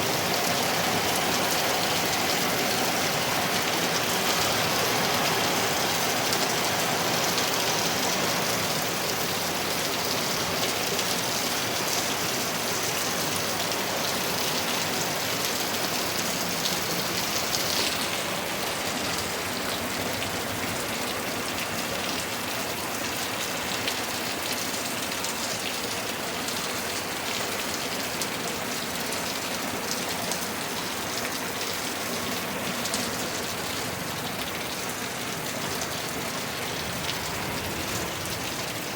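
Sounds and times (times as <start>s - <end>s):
hard rain falling: 0.0s - 38.9s.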